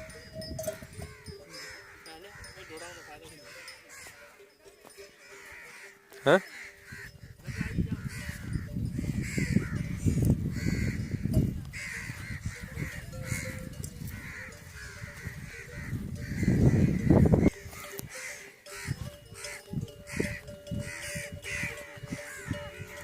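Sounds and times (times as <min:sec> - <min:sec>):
crows cawing: 0:00.6 - 0:04.4, 0:05.1 - 0:23.0.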